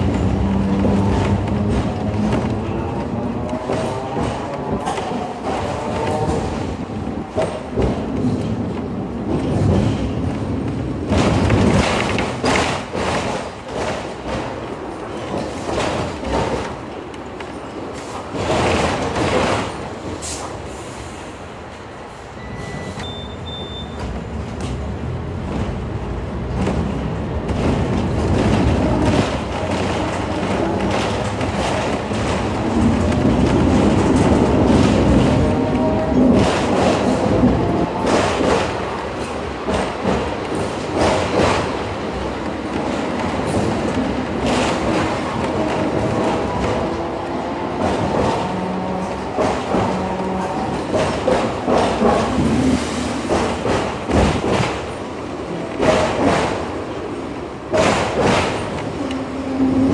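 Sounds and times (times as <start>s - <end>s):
tram rumbling on rails: 0.0s - 59.9s.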